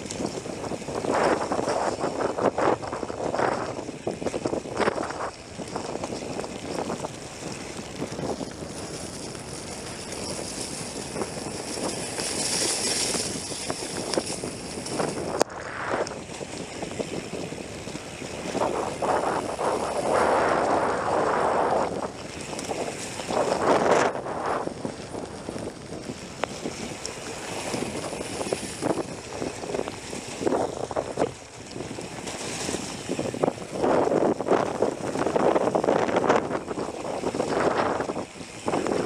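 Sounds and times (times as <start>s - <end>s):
mountain bike riding a trail: 0.0s - 39.0s
wind buffeting microphone: 0.0s - 39.0s.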